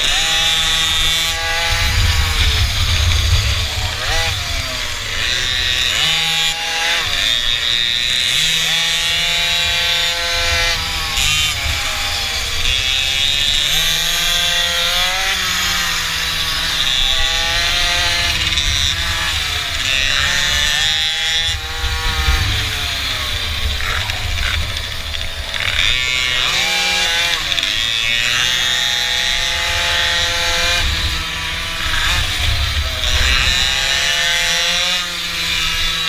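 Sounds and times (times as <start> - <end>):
mini bike engine revving: 0.0 - 36.0
wind rumble on microphone: 0.0 - 36.0.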